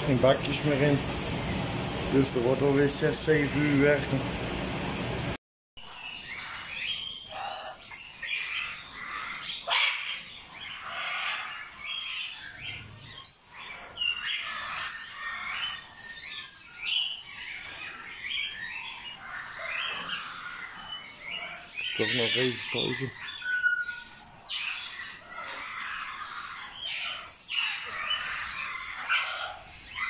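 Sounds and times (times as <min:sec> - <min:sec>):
parrots chirping and squawking: 0:00.0 - 0:30.0.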